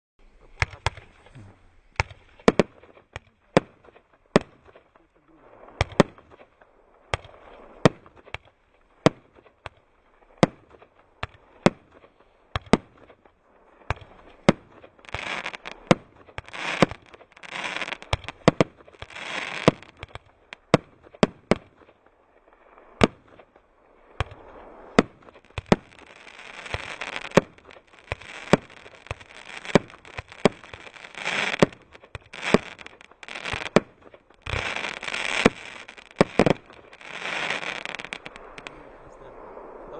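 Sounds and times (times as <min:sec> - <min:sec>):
firework crackling: 0:00.4 - 0:39.9
firework bangs: 0:00.6 - 0:39.9.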